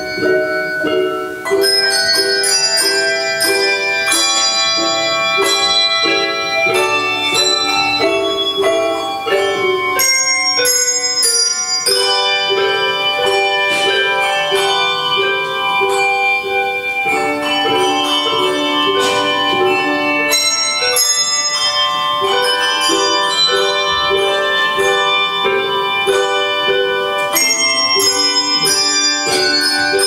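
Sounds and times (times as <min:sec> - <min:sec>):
handbell choir playing chords: 0:00.0 - 0:30.0.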